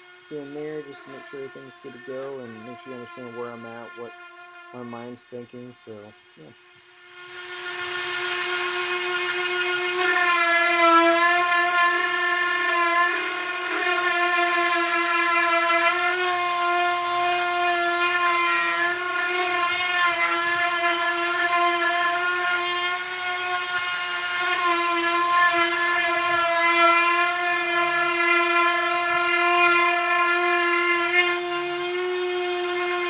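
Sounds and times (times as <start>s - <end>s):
electric sander on wood: 0.0s - 33.0s.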